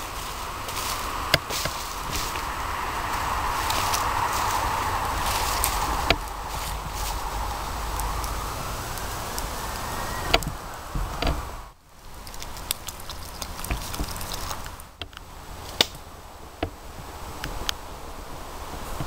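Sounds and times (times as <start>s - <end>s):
campfire crackling and popping: 0.0s - 17.8s.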